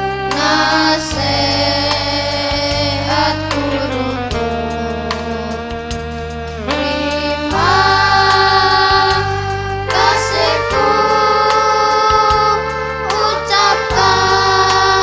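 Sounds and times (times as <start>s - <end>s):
backing music with steady beat: 0.0s - 15.0s
girls choir singing in unison: 0.3s - 3.9s, 6.6s - 15.0s.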